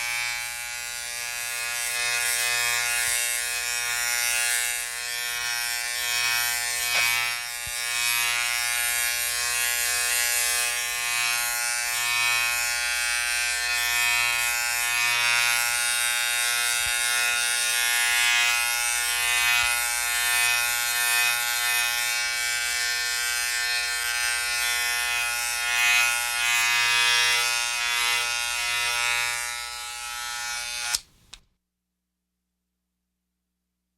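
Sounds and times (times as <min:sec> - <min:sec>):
electric razor buzzing: 0:00.0 - 0:31.1.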